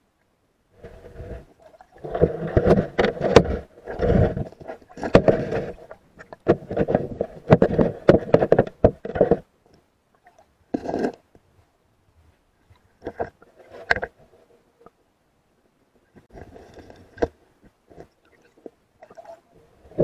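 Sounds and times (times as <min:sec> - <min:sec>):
muffled underwater knocking and scraping: 0:00.8 - 0:09.8, 0:10.7 - 0:11.5, 0:12.3 - 0:15.0, 0:16.1 - 0:20.0.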